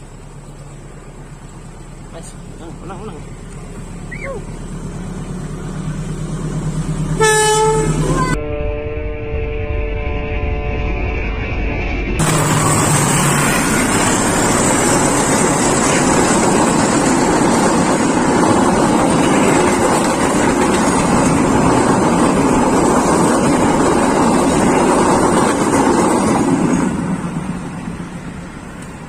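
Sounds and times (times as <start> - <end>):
passenger train passing: 0.0 - 29.0.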